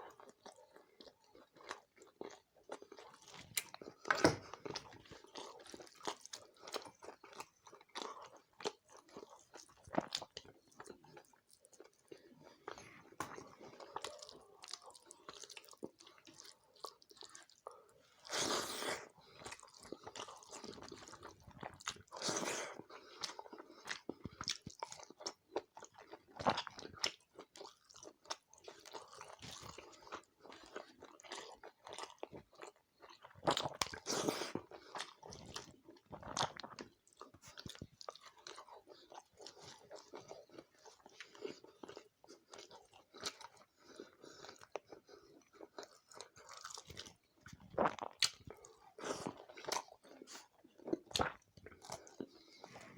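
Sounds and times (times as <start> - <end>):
person chewing and biting food: 0.1 - 52.9.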